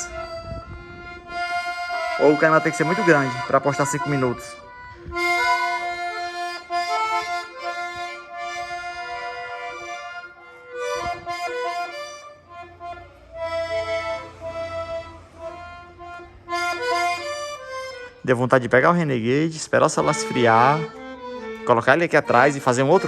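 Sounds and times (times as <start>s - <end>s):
accordion melody: 0.0s - 23.0s.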